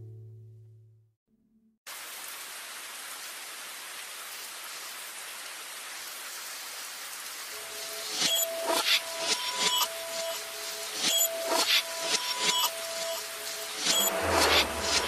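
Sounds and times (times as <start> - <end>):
rain hissing: 1.9 - 15.0.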